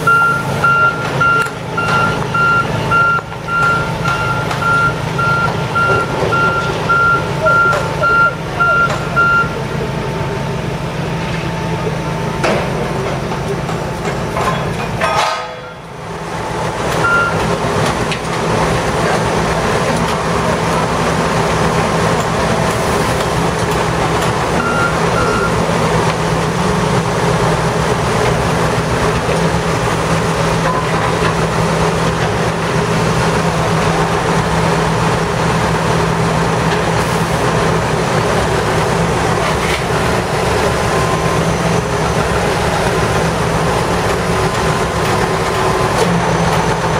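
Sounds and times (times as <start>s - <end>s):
diesel machinery engine drone: 0.0s - 46.9s.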